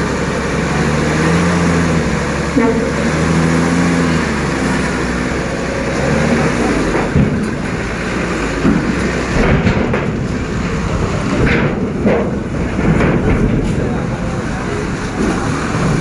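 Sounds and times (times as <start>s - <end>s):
bus driving slowly: 0.0s - 16.0s
truck engine hum: 0.0s - 16.0s.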